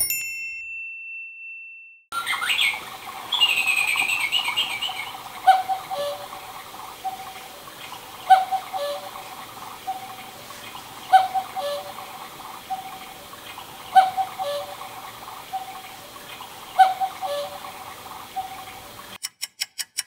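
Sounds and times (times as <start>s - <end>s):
recorded birdsong: 2.1s - 19.2s
cuckoo clock call: 2.2s - 20.0s
steady hiss: 2.8s - 19.2s.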